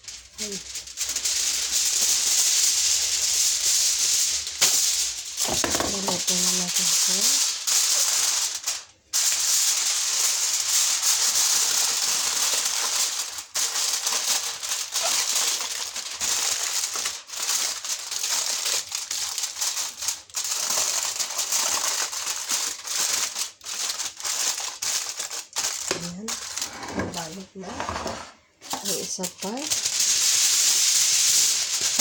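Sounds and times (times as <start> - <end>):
aluminium foil crinkling: 0.0 - 27.6, 28.6 - 32.0.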